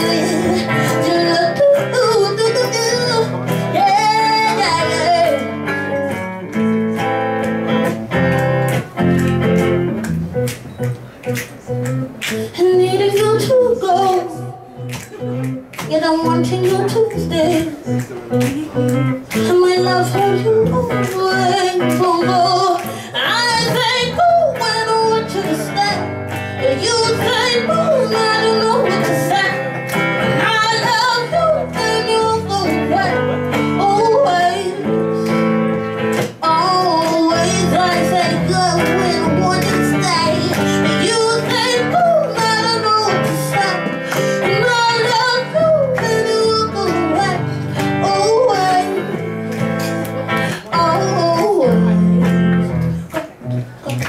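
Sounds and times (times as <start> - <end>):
woman singing: 0.0 - 6.1, 12.2 - 53.3
electric guitar: 0.0 - 54.0.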